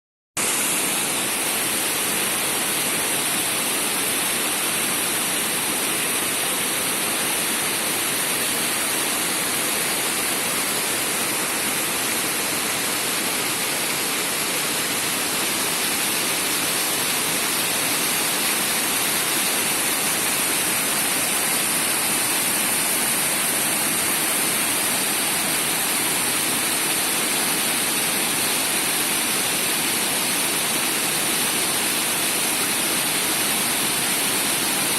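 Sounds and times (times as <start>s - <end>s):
waterfall roaring: 0.4s - 34.9s.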